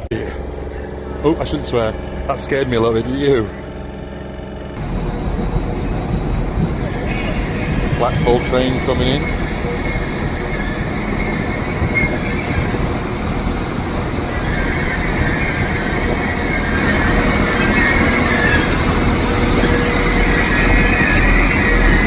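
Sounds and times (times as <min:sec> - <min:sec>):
train rumbling: 0:00.0 - 0:22.0
high wavering brake squeal: 0:00.3 - 0:22.0.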